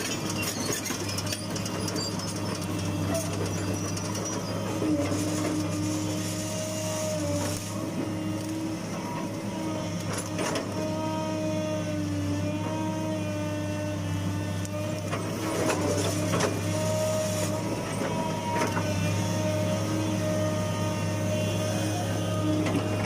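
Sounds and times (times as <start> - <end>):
excavator diesel engine hum: 0.0 - 23.0
hydraulic whine: 0.0 - 23.0.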